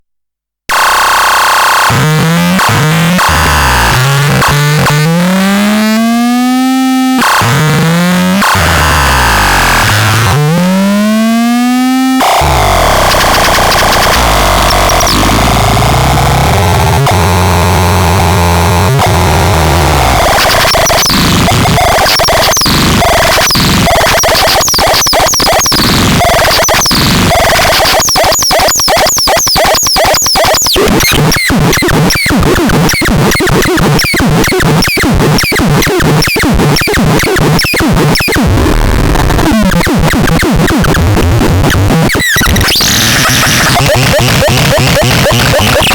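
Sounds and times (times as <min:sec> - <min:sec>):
harsh distorted electronic noise: 0:00.7 - 0:45.9.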